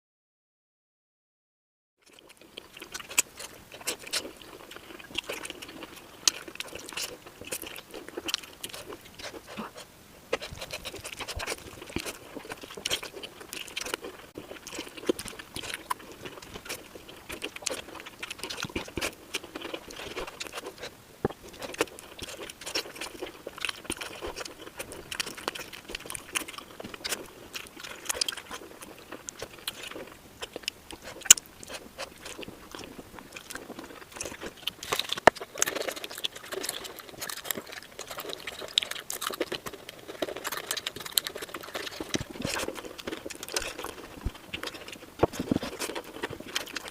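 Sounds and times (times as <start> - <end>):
chewing and crunching: 2.0 - 46.9.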